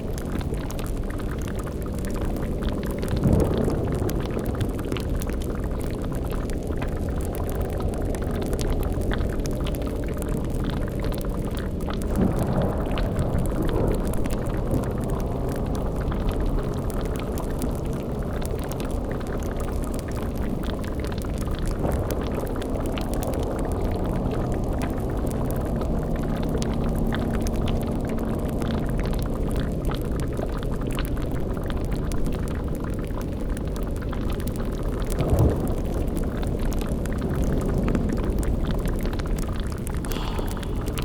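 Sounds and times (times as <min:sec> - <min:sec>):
low rumble: 0:00.0 - 0:32.4, 0:35.0 - 0:41.0
cauldron boiling and bubbling: 0:00.0 - 0:41.0.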